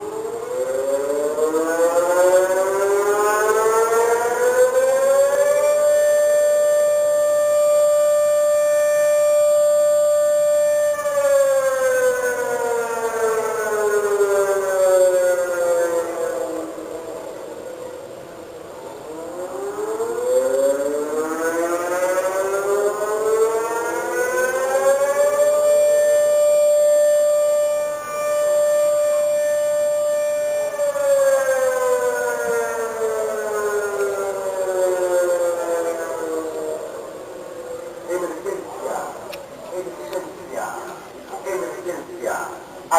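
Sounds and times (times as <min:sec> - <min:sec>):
emergency alarm siren winding up: 0:00.0 - 0:41.1.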